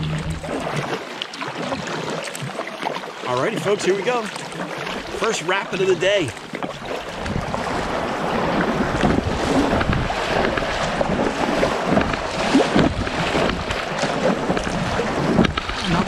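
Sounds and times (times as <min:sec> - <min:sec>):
water rushing through rapid: 0:00.0 - 0:16.0.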